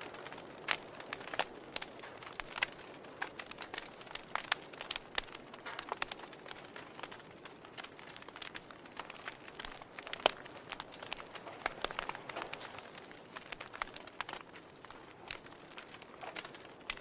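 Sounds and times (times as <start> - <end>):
campfire crackling and popping: 0.0 - 17.0
soft fire hiss: 0.0 - 17.0.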